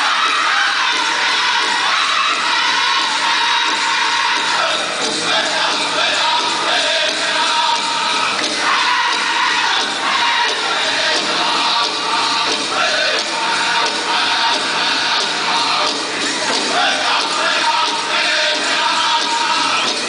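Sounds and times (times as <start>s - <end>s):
drum beating: 0.0s - 20.0s
group singing: 0.0s - 20.0s.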